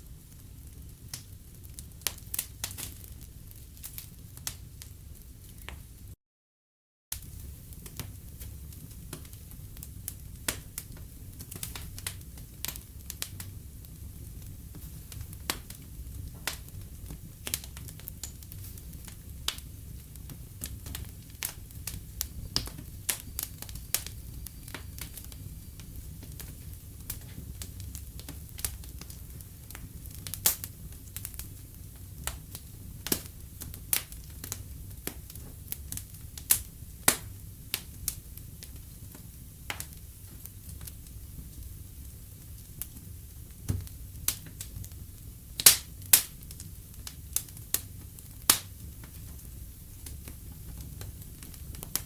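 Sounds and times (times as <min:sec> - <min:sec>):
low rumble of flames: 0:00.0 - 0:06.1, 0:07.2 - 0:52.0
wood fire crackling and popping: 0:00.0 - 0:06.1, 0:07.1 - 0:52.0.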